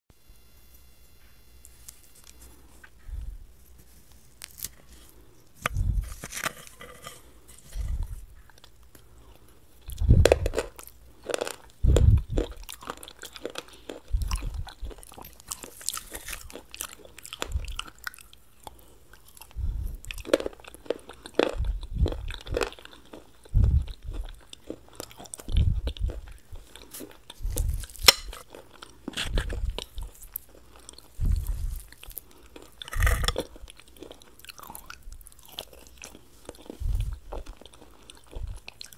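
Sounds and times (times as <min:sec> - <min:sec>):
chewing crunchy food: 0:01.7 - 0:38.9.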